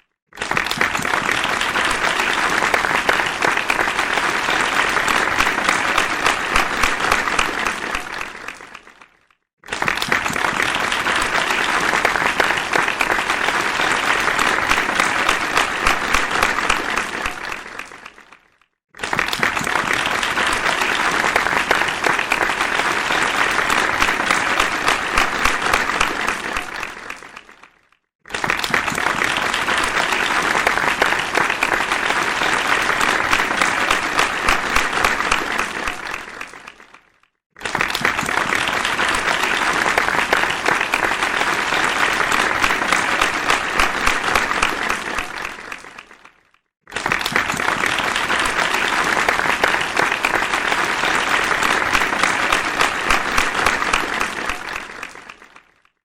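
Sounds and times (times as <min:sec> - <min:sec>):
audience applause: 0:00.0 - 0:56.0.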